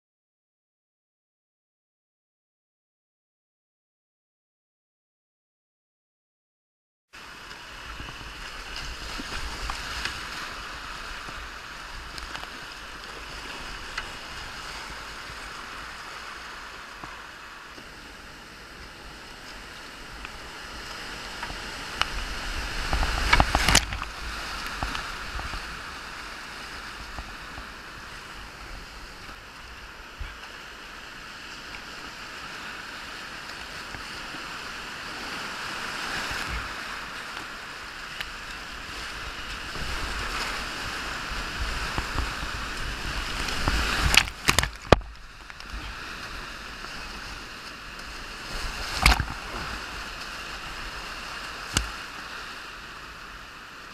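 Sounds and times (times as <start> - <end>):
rapids roaring: 7.2 - 53.9.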